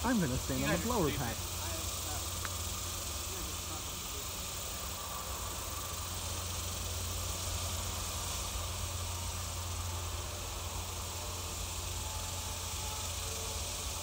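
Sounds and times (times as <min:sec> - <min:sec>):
low constant hum: 0:00.0 - 0:14.0
steady background hiss: 0:00.0 - 0:14.0.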